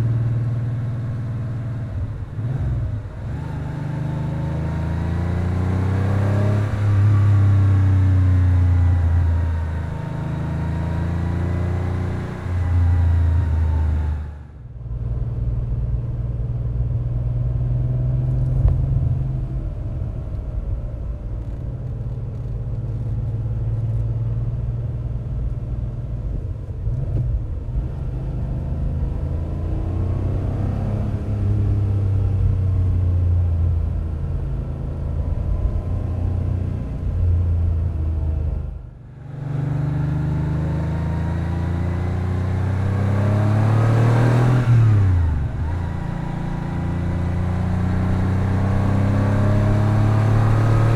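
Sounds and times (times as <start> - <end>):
car engine exhaust rumble: 0.0 - 50.9.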